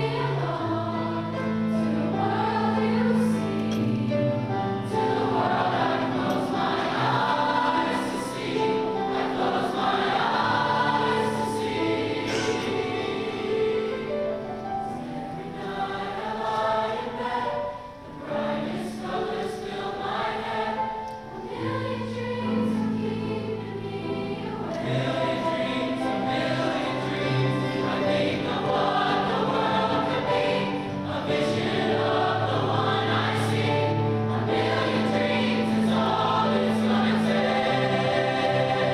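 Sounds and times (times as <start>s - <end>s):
choir singing sustained chords: 0.0s - 38.9s.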